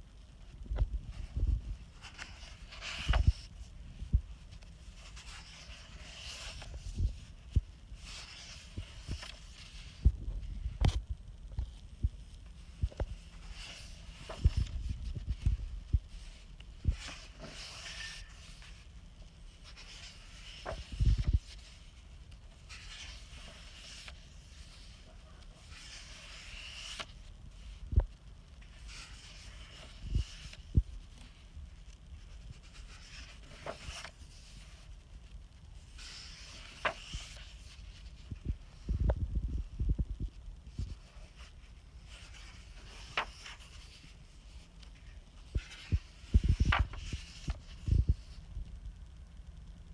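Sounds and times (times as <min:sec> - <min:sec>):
paper pages turning: 0:01.0 - 0:27.9, 0:28.6 - 0:39.1, 0:40.7 - 0:48.4.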